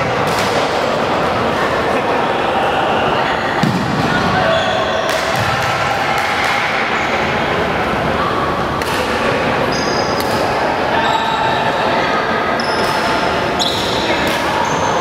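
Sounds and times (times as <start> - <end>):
reverberant din of play and voices: 0.0 - 15.0.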